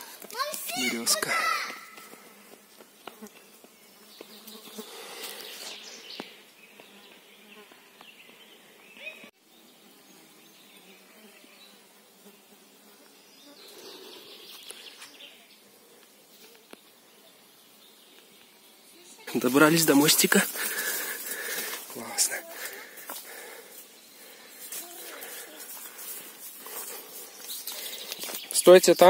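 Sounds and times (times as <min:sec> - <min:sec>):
flying insects buzzing: 0:00.0 - 0:29.0.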